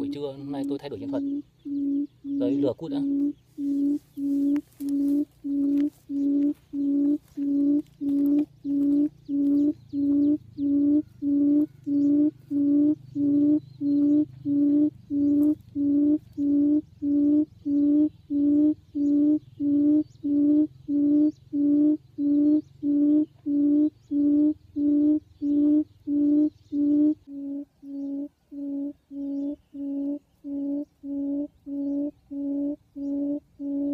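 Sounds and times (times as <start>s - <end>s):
electronic quail call hooting: 0.0s - 33.9s.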